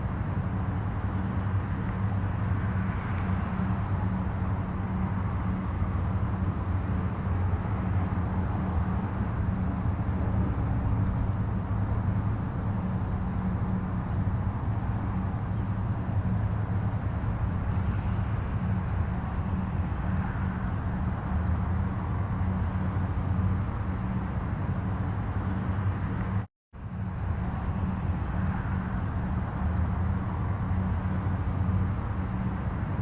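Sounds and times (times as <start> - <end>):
distant highway traffic: 0.0 - 33.0.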